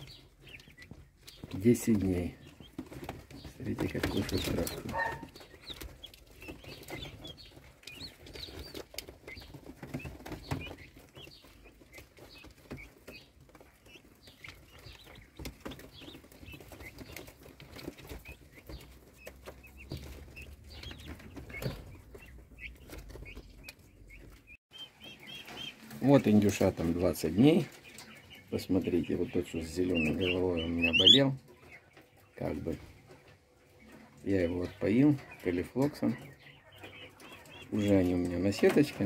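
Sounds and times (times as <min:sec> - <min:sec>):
turkey poults peeping: 0:00.0 - 0:39.0.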